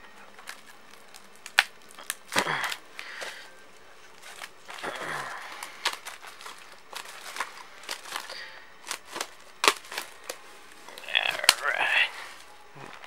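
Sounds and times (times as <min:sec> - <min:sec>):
plastic shrink wrap crinkling: 0:00.0 - 0:13.0.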